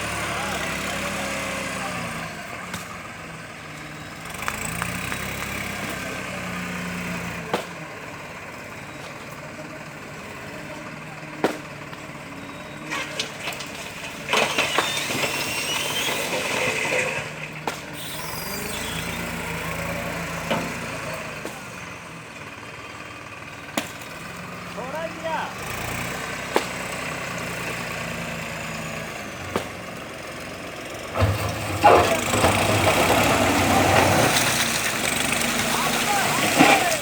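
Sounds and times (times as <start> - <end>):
tractor diesel engine revving: 0.0 - 37.0.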